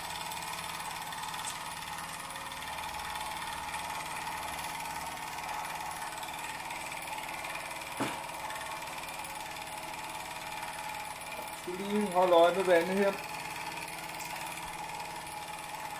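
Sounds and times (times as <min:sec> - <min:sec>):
toy steam engine running: 0:00.0 - 0:15.9.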